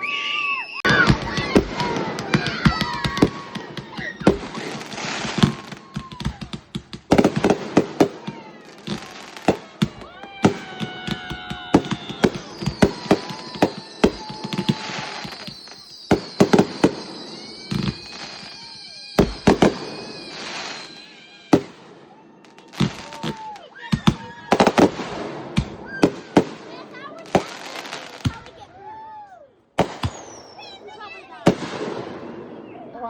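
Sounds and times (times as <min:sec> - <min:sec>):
fireworks whistling: 0:00.0 - 0:29.1, 0:29.8 - 0:33.0
fireworks bangs and crackling: 0:00.4 - 0:33.0.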